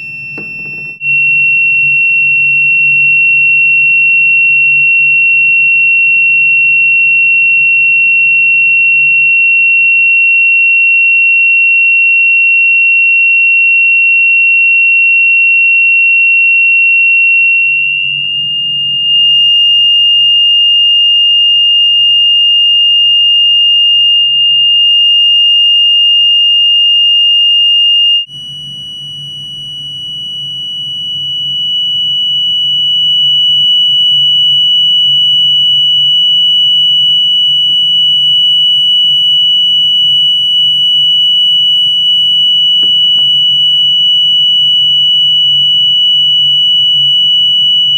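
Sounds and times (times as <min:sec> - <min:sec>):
high-pitched sine tone: 0:00.0 - 0:47.9.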